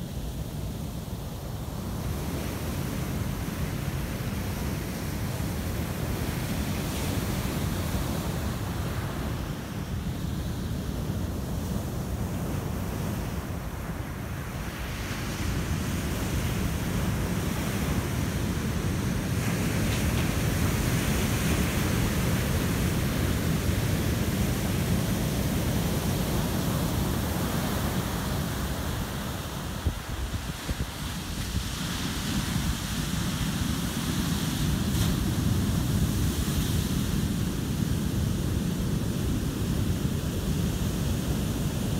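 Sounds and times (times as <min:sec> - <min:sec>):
ocean surf breaking on beach: 0:00.0 - 0:41.9.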